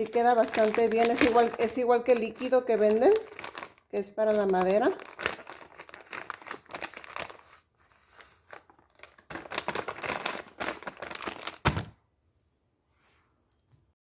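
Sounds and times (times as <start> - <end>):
plastic pouch crinkling: 0.0 - 11.9.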